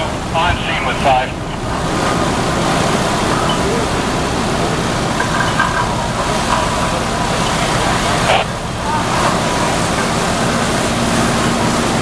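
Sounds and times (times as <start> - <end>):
faint voices: 0.0 - 11.5
fire engine mechanical rush: 0.0 - 12.0.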